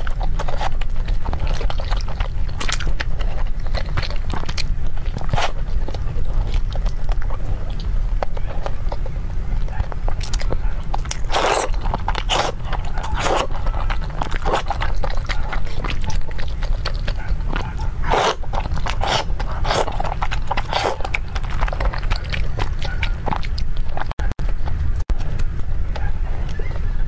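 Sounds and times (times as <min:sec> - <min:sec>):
noodle slurping: 0:00.0 - 0:09.2, 0:10.1 - 0:24.1
chewing: 0:00.0 - 0:27.0.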